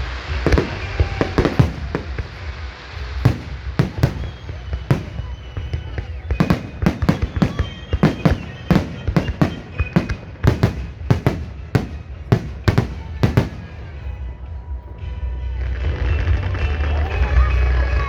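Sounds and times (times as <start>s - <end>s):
fireworks bangs: 0.0s - 17.2s.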